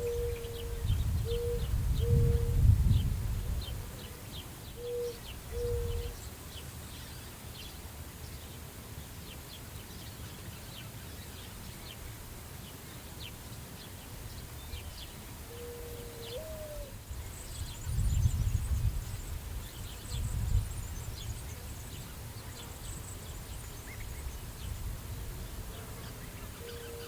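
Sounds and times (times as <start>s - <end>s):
wind across grass: 0.0s - 27.0s.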